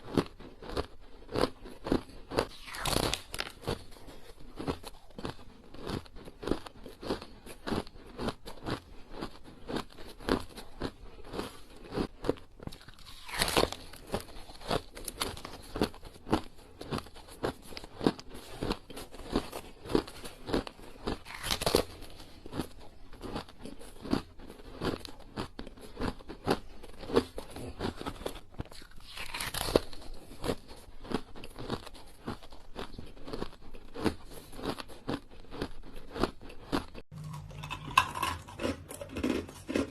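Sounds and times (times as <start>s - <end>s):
ice cubes crunched by teeth: 0.0s - 39.9s.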